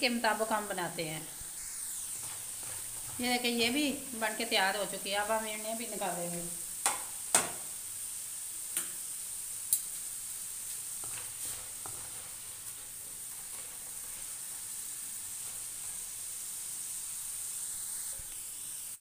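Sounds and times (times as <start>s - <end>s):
fries sizzling in oil: 0.0s - 19.0s.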